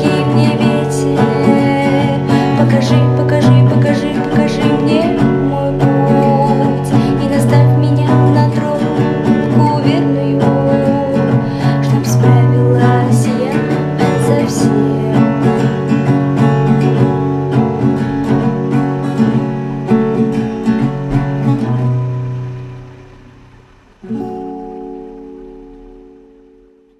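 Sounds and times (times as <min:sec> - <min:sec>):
acoustic guitar strumming chords: 0:00.0 - 0:26.9.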